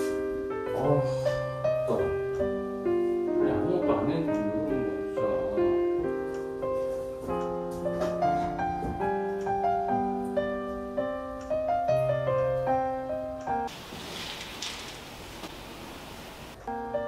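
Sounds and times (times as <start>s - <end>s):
piano music: 0.0s - 13.8s, 16.4s - 17.0s.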